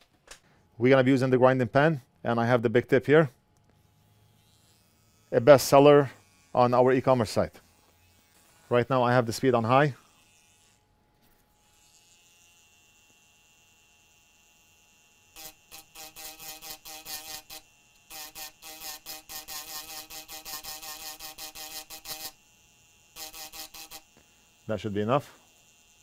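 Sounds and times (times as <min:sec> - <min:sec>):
grinding pen buzzing: 0:03.6 - 0:26.0.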